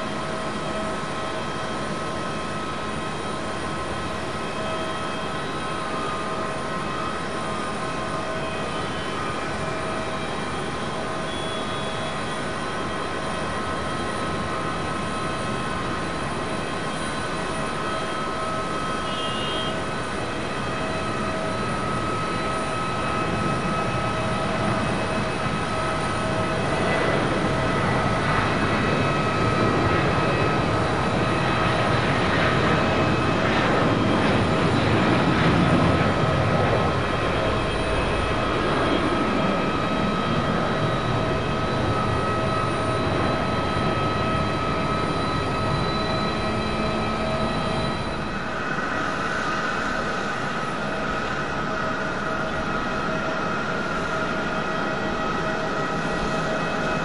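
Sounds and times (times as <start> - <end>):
jet engines roaring at takeoff: 0.0 - 57.0.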